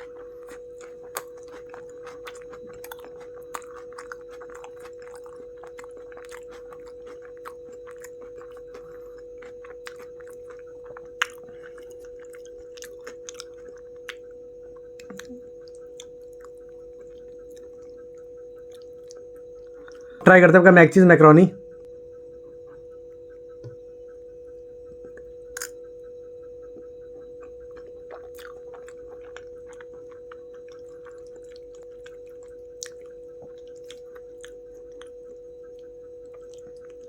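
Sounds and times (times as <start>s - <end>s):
mouth chewing food: 0.0s - 20.6s, 25.0s - 25.9s, 26.6s - 37.0s
steady hum: 0.0s - 37.0s.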